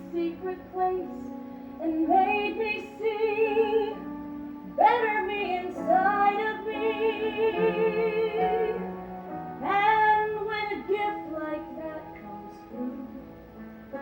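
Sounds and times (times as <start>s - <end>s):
musical accompaniment: 0.0s - 14.0s
person singing with vibrato: 0.0s - 14.0s.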